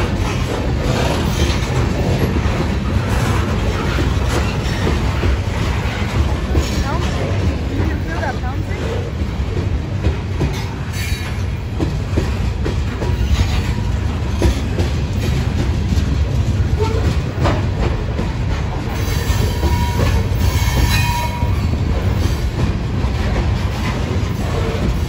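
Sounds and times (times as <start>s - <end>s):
clicks of wheels on rail joints: 0.0s - 25.0s
train wheels rumbling on rail: 0.0s - 25.0s.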